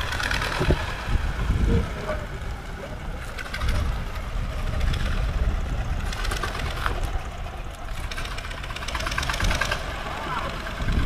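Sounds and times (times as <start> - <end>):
diesel boat engine chugging: 0.0 - 11.0.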